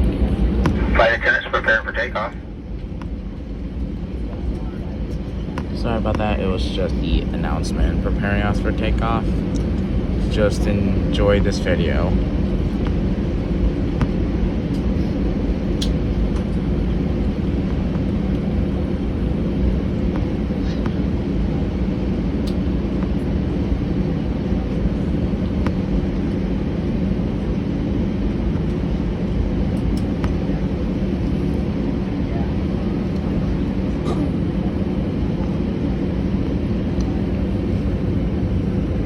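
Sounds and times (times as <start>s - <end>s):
jet engine low rumble in cabin: 0.0s - 39.0s.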